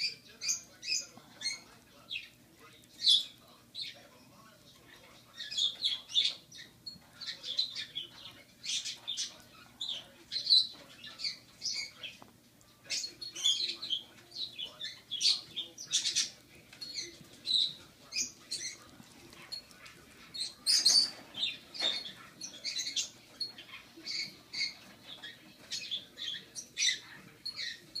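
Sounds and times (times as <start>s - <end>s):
squirrel gnawing carrot: 0.0s - 28.0s.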